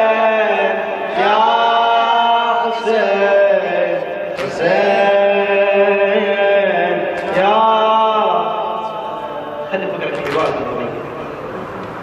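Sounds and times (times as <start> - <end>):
man chanting into microphone: 0.0 - 11.2.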